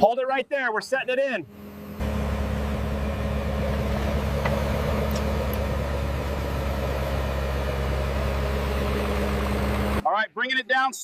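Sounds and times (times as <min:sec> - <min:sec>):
diesel engine droning: 0:00.8 - 0:10.0.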